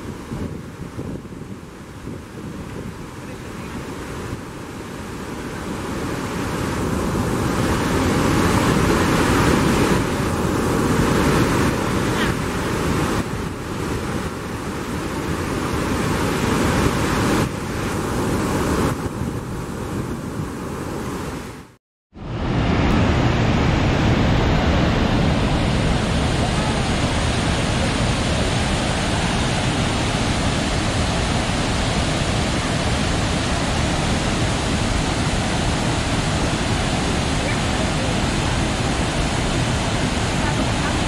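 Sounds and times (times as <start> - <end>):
waterfall roaring: 0.0 - 21.7, 22.3 - 41.0.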